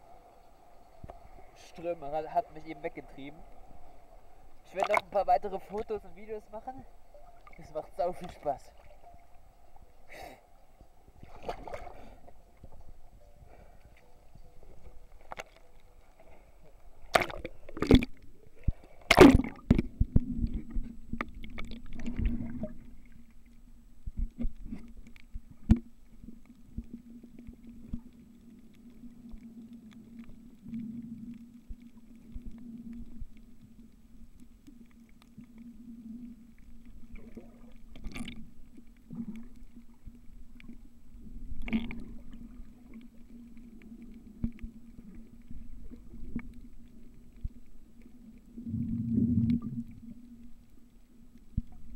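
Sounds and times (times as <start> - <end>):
muffled underwater sound: 0.0 - 51.9
water splashing: 4.4 - 10.2, 11.1 - 13.0, 14.0 - 51.9.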